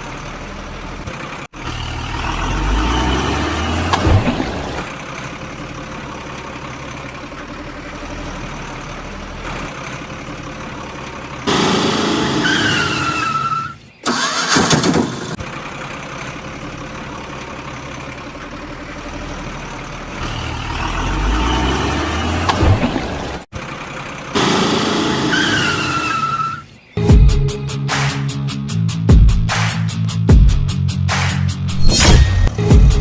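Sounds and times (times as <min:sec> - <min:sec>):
engine running: 0:00.0 - 0:25.9, 0:27.0 - 0:33.0.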